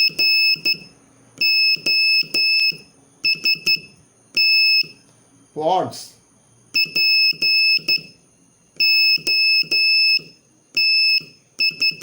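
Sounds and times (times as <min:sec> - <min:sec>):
morse code beeps: 0:00.0 - 0:05.0, 0:06.8 - 0:08.2, 0:08.8 - 0:12.0.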